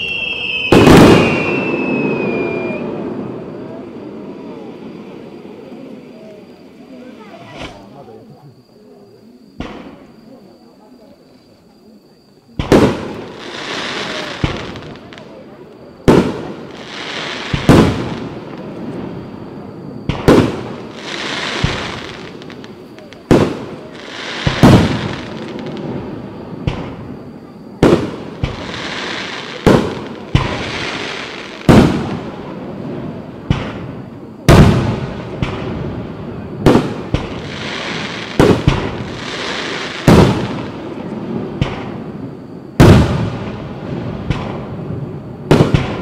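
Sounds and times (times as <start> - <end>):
fireworks bangs: 0.0 - 6.3, 9.6 - 10.4, 12.6 - 46.0
fireworks hissing crackle: 0.0 - 9.0, 12.3 - 46.0.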